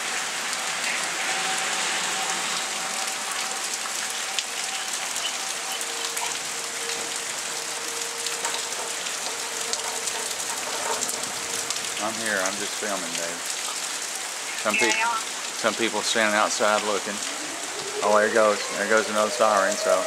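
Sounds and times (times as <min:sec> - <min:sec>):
rain on pavement and cars: 0:00.0 - 0:20.0.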